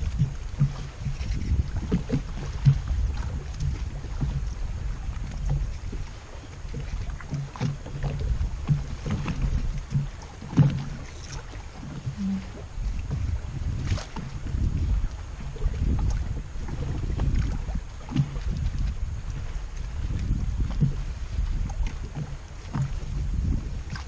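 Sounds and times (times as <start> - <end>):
waves lapping against boat: 0.0 - 24.0
wind buffeting microphone: 0.0 - 24.0.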